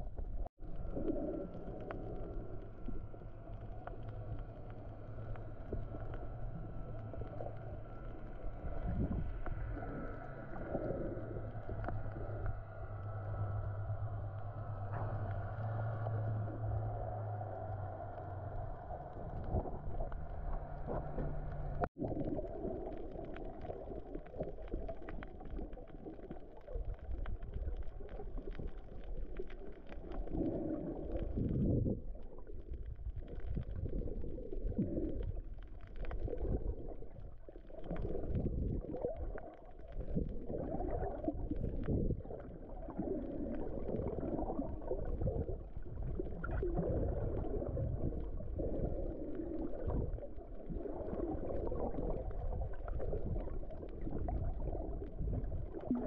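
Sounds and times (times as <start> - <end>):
muffled underwater rushing water: 0.0 - 56.0.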